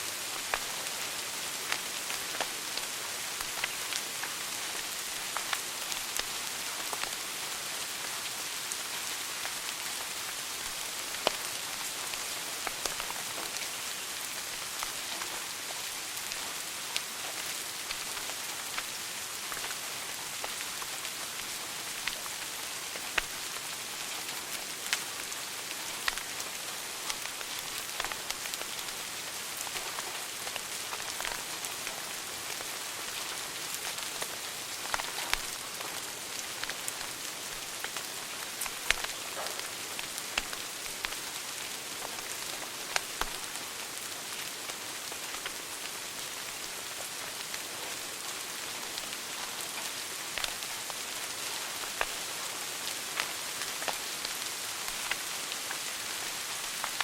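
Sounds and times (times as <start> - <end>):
wood fire crackling: 9.9 - 57.0.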